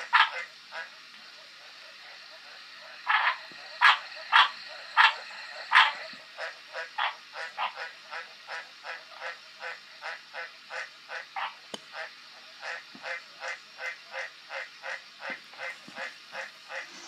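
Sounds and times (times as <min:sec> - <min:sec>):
tree frog croaking: 0:00.0 - 0:16.9.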